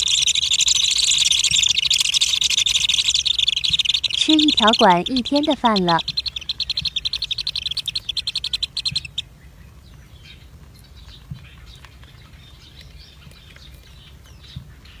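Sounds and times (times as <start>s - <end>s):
nestling birds chirping: 0.0s - 15.0s.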